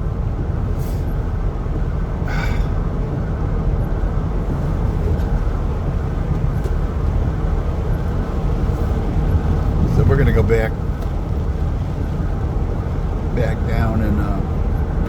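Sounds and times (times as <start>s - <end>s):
road noise inside cabin: 0.0s - 15.0s
vehicle engine rumble: 0.0s - 15.0s.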